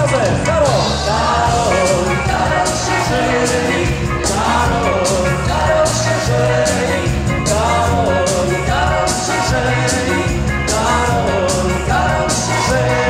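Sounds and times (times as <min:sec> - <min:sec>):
dance band playing upbeat music: 0:00.0 - 0:13.0.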